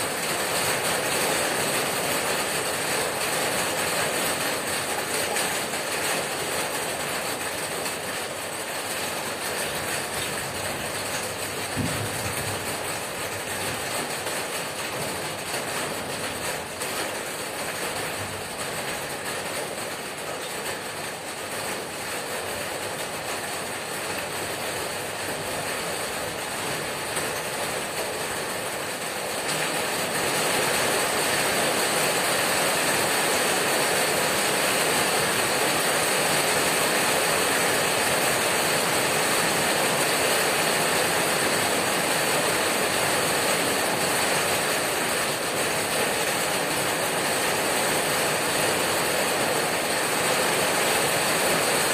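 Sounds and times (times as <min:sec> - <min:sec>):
rain on a tin roof: 0:00.0 - 0:51.9.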